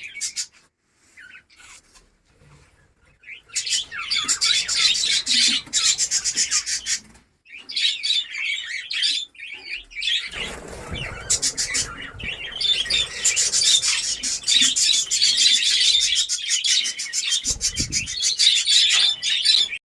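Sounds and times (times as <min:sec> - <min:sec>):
budgerigars chirping and chattering: 0:00.0 - 0:02.0, 0:02.6 - 0:19.8.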